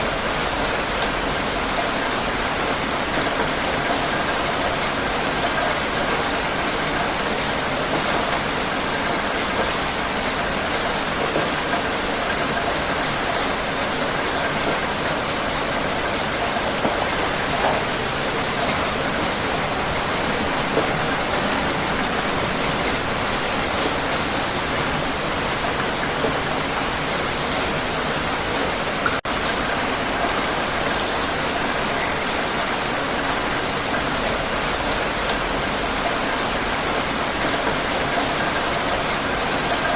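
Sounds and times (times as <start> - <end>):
heavy rain falling: 0.0 - 39.9
rain splashes: 0.0 - 39.9.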